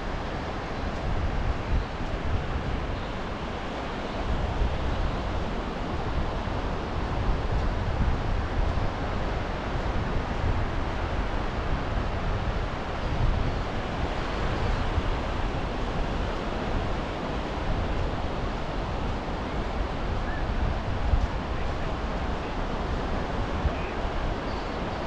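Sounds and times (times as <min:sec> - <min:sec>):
surf washing on sandy shore: 0:00.0 - 0:25.0
wind rumbling on microphone: 0:00.0 - 0:25.0.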